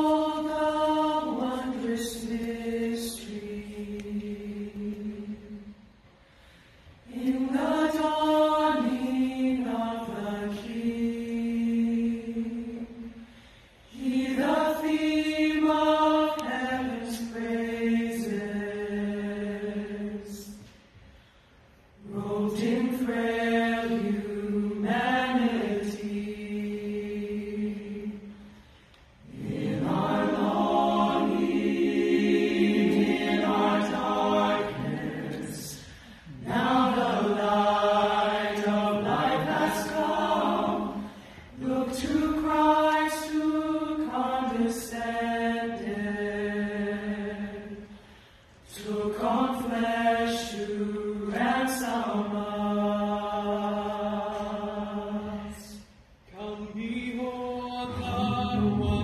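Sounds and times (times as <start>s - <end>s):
choir singing a hymn: 0.0s - 6.0s, 7.0s - 20.7s, 22.0s - 59.0s.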